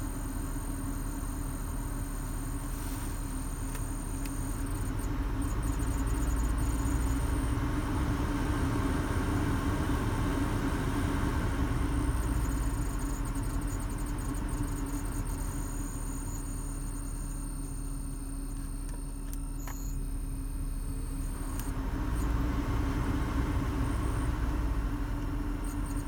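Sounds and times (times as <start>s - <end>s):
blower fan motor whistling: 0.0s - 26.0s.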